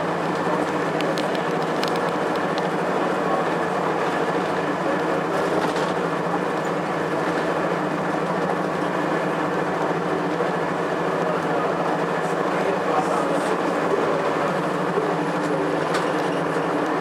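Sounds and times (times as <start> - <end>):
bus diesel engine drone: 0.0 - 17.0
road noise rumble: 0.0 - 17.0.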